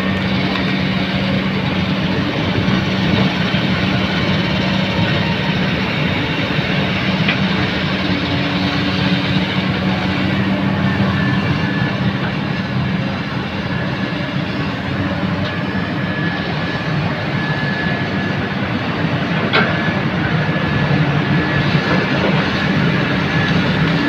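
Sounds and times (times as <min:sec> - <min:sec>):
excavator diesel engine running: 0:00.0 - 0:24.0
thin steady whine: 0:00.0 - 0:24.0.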